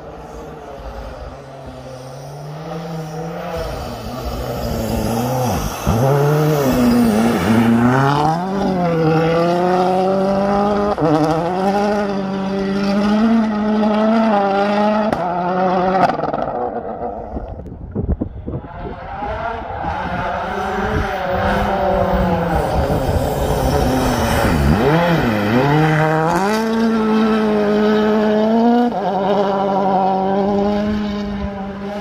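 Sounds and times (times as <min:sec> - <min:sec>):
rally car engine at full throttle: 0:00.0 - 0:32.0.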